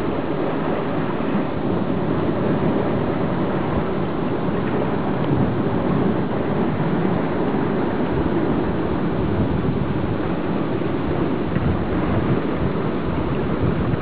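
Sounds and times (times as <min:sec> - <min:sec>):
surf washing: 0:00.0 - 0:14.0
underwater rushing of sea water: 0:00.0 - 0:14.0.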